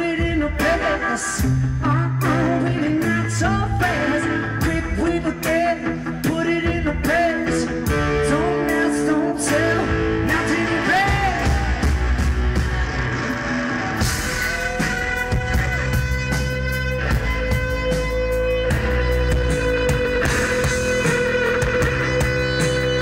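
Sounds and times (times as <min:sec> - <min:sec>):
distorted electric guitar riff: 0:00.0 - 0:23.0
drums and cymbals: 0:00.0 - 0:23.0.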